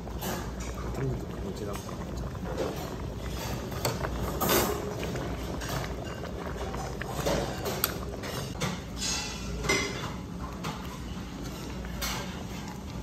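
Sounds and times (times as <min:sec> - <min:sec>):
ladle scraping and clinking on pot: 0:01.8 - 0:13.0.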